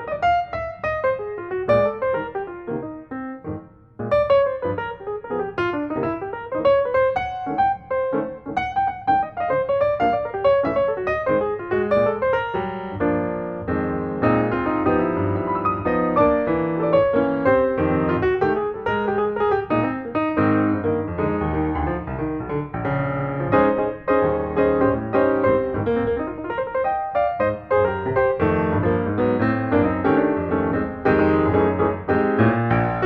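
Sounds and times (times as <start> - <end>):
busy piano music: 0.0 - 33.0.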